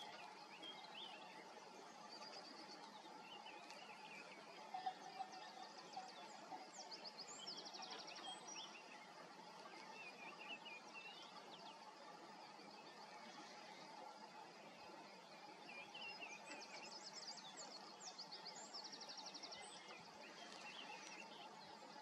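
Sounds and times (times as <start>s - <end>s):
faint songbird chirps: 0.0s - 22.0s
steady low hiss: 0.0s - 22.0s.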